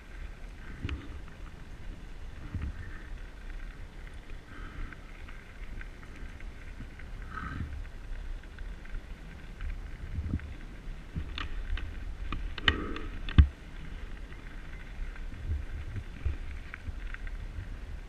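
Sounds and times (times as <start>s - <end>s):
wind rumble: 0.0s - 18.0s.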